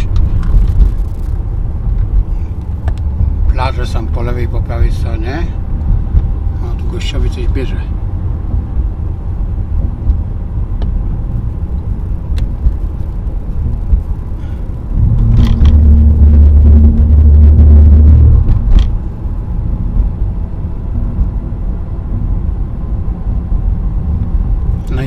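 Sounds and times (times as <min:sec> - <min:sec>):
car road noise from cabin: 0:00.0 - 0:25.0.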